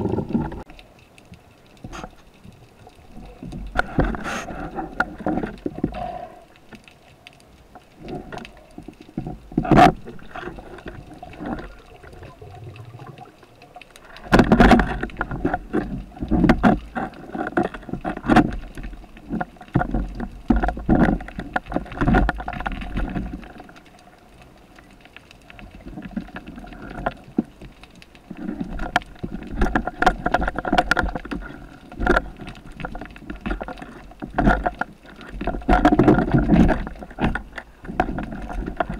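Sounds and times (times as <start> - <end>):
muffled underwater knocks and clicks: 0.0 - 38.9
rushes of water: 0.0 - 38.9.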